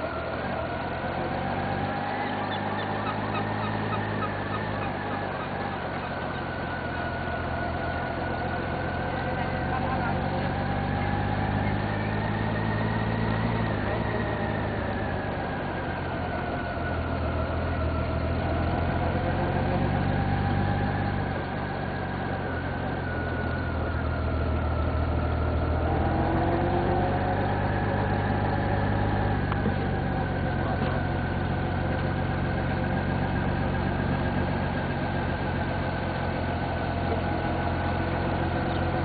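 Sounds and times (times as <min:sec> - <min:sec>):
high whine drifting in pitch: 0:00.0 - 0:39.0
vehicle engine low hum: 0:00.0 - 0:39.0.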